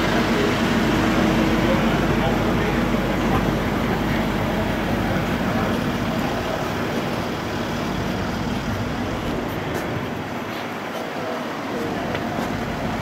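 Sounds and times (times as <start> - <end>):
road vehicle rumble: 0.0 - 13.0.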